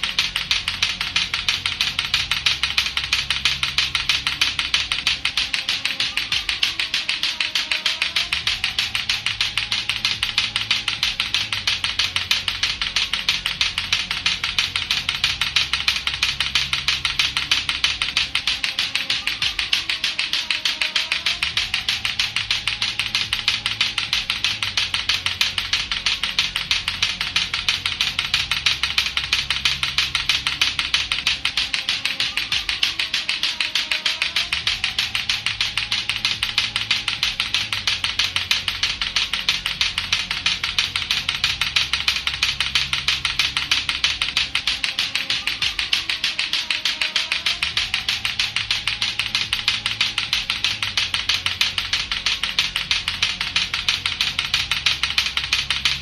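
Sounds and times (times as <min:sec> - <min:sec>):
clacker toy balls clacking: 0:00.0 - 0:56.0
looping music with bass line: 0:00.0 - 0:56.0.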